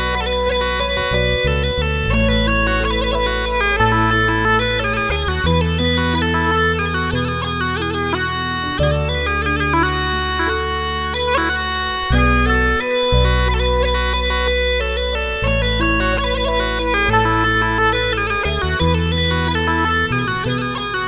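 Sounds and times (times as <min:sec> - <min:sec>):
bagpipe melody: 0:00.0 - 0:21.0
held bass notes: 0:00.0 - 0:21.0.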